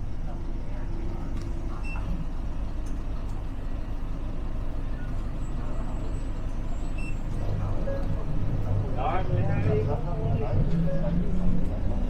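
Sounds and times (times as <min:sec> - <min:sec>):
low mechanical rumble: 0:00.0 - 0:11.8
faint voices: 0:00.2 - 0:12.0.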